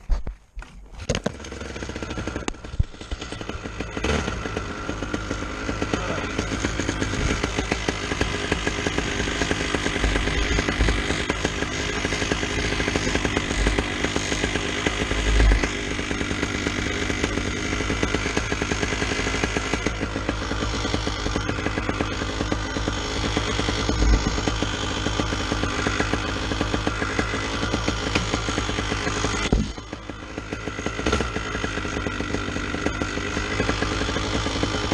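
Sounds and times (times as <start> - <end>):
two-stroke engine running: 1.0 - 34.9.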